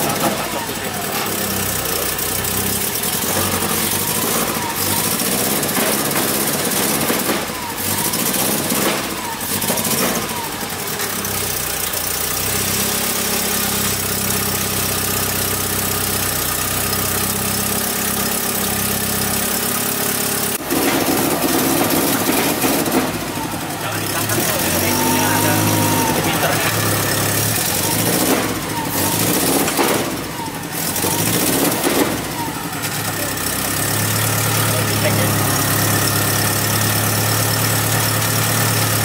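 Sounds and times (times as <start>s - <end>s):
car engine idling fast: 0.0s - 39.0s
engine throttle bursts: 0.0s - 39.0s.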